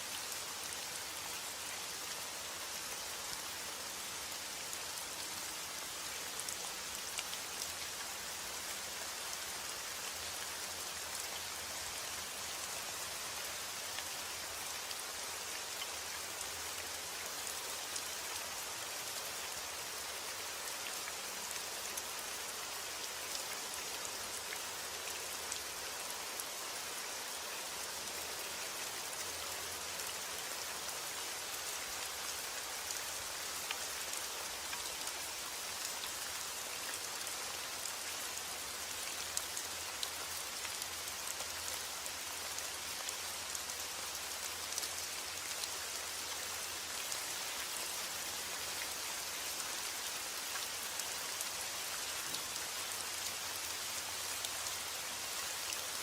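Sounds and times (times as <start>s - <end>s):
rain hiss: 0.0s - 56.0s.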